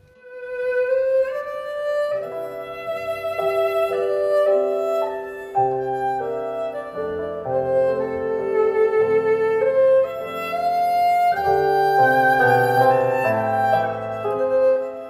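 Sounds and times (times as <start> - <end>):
violin melody over sustained chords: 0.0 - 15.0.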